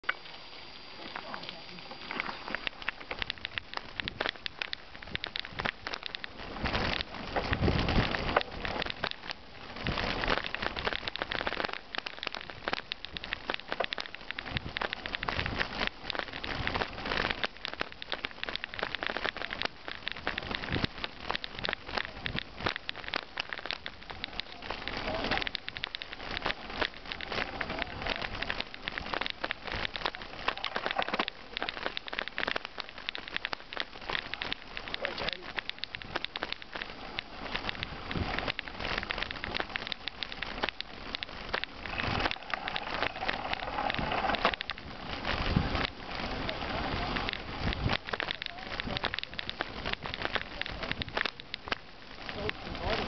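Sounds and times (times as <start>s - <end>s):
bicycle tyres crunching on gravel: 0.0s - 53.0s
bike rattling: 0.1s - 53.0s.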